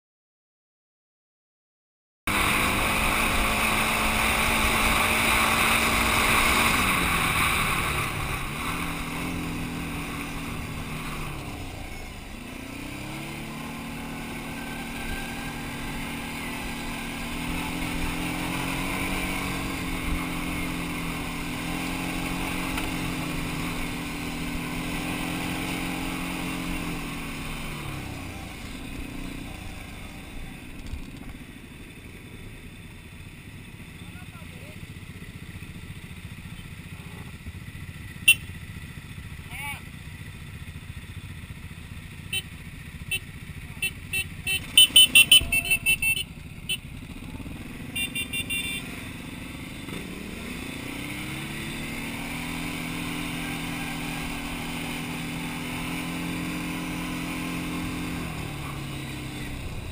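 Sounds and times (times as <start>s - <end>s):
quad bike engine: 2.3s - 59.9s.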